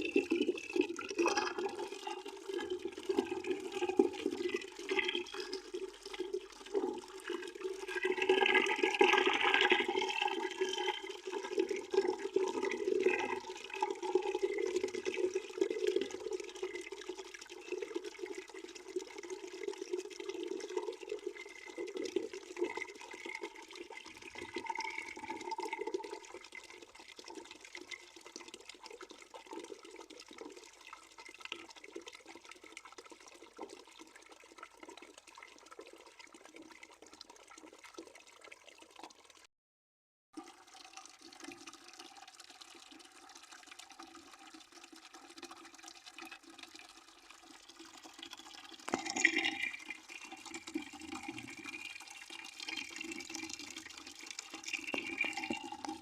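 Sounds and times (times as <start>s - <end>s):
water flowing into a bucket: 0.0s - 39.5s, 40.4s - 56.0s.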